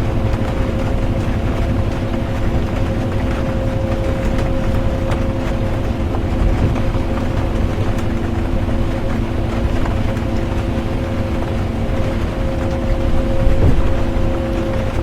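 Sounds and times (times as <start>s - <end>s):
bus engine drone: 0.0s - 15.0s
two-tone constant hum: 0.0s - 15.0s.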